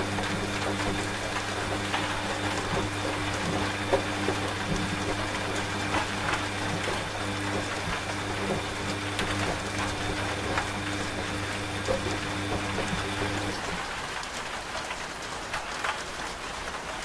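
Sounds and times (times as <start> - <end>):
drops ticking: 0.0 - 13.8
washing machine motor hum: 0.0 - 14.6
steady rain: 0.0 - 17.0.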